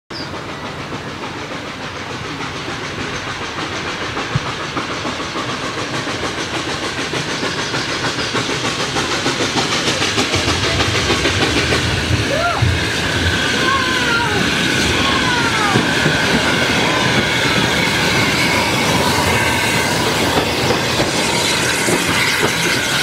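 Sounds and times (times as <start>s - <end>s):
steam hissing: 0.1s - 23.0s
steam locomotive exhaust beats: 0.1s - 23.0s.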